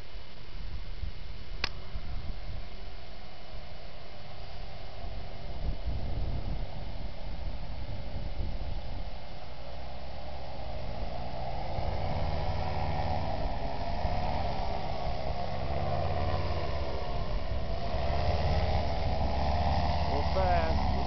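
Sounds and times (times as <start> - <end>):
paramotor engine droning: 0.0 - 21.0.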